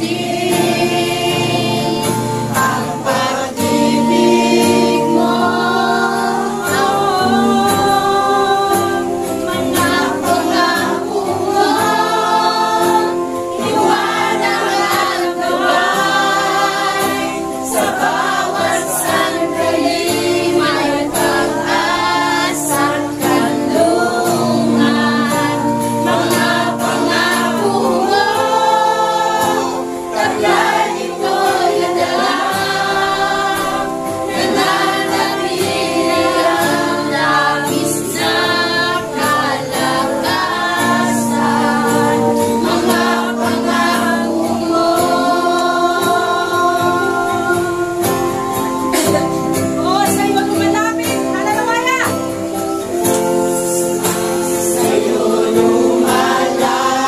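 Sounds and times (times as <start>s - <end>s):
congregation singing worship song: 0.0s - 57.0s.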